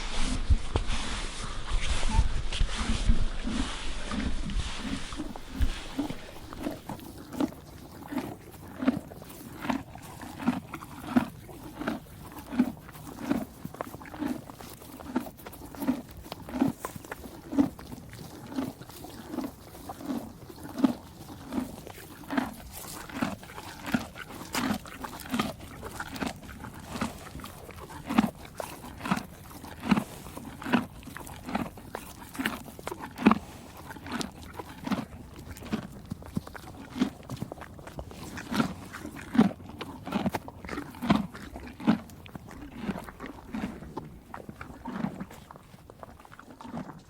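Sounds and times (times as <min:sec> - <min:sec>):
horse chewing hay: 0:00.0 - 0:47.0.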